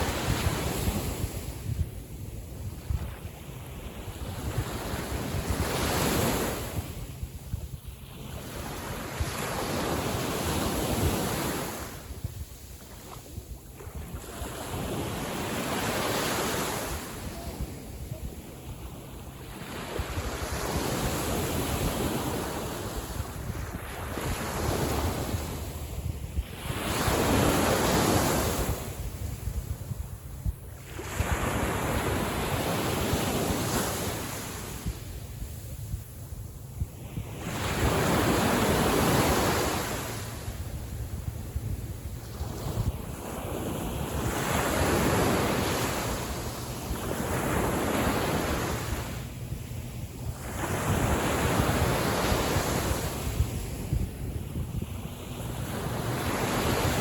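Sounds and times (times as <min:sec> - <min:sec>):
wind rumbling on microphone: 0:00.0 - 0:57.0.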